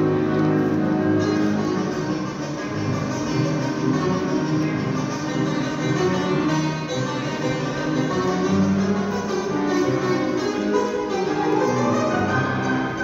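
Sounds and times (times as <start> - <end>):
plucked lute melody: 0.0 - 13.0
upright piano accompaniment: 0.0 - 13.0.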